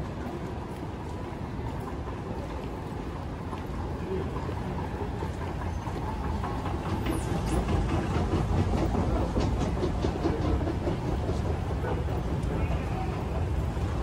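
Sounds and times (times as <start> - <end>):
low rumble of airport concourse: 0.0 - 14.0.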